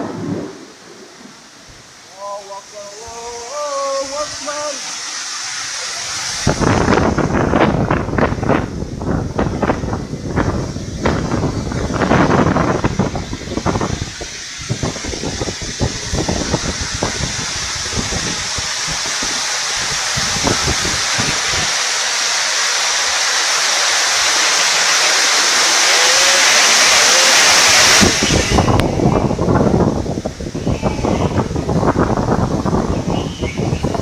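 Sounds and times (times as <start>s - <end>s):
wind buffeting microphone: 0.0s - 4.8s, 5.9s - 22.4s, 24.1s - 34.0s
hail and heavy rain pelting: 0.0s - 34.0s.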